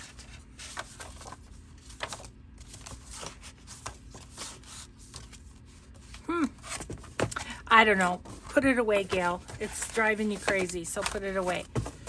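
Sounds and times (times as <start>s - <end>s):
paper pages rustling and sliding: 0.0s - 12.0s.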